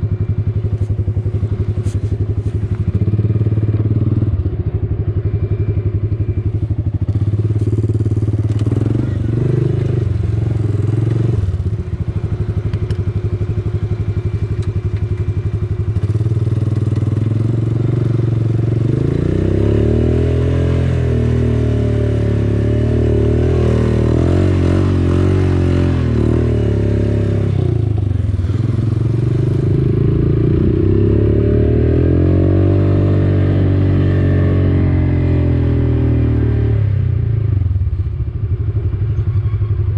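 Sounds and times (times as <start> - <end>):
quad bike engine revving: 0.0 - 37.7.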